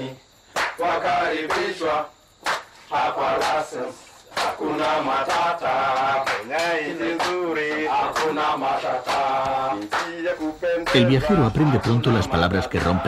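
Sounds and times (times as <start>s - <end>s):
men chanting and singing: 0.0s - 13.0s
hand claps: 0.5s - 1.8s, 2.4s - 3.7s, 4.3s - 13.0s.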